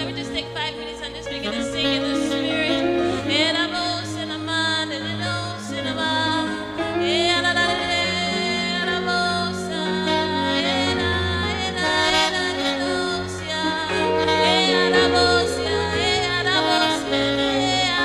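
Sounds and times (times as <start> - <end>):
live gospel worship music: 0.0 - 18.0.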